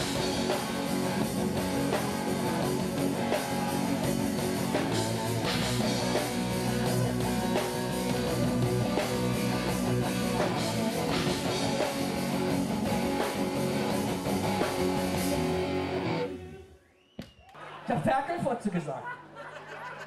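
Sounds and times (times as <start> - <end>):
live rock band playing: 0.0 - 16.4.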